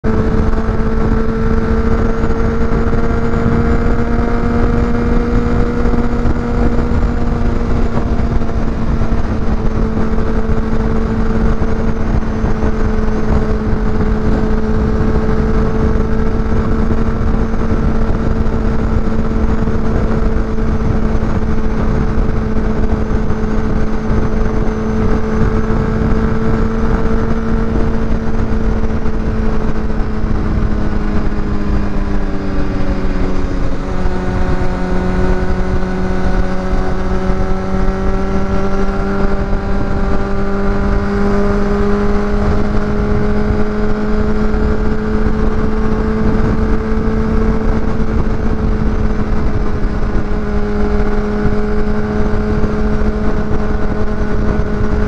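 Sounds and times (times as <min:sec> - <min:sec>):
motorcycle engine cruising: 0:00.0 - 0:55.0
wind noise: 0:00.0 - 0:55.0.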